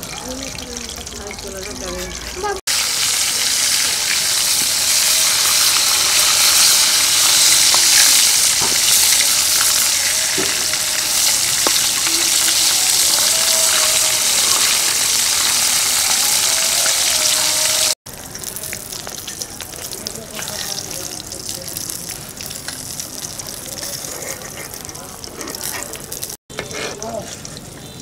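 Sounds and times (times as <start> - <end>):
fish frying in hot oil: 0.0 - 28.0.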